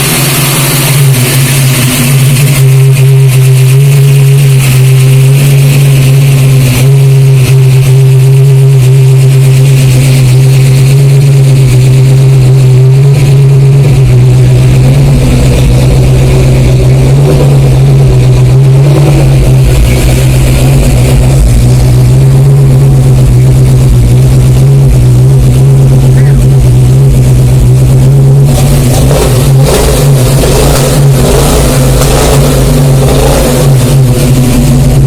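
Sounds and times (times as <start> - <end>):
car engine idling loudly: 0.0 - 35.0.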